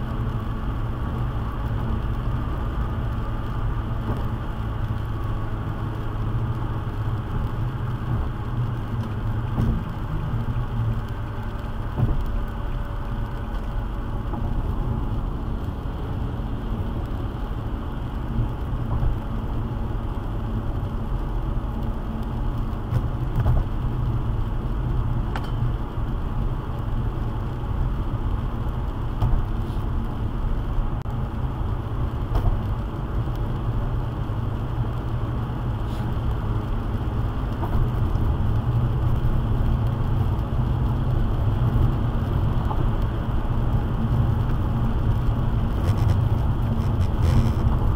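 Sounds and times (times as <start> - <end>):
engine and road rumble: 0.0 - 47.9
tyres hissing on wet pavement: 1.6 - 47.9.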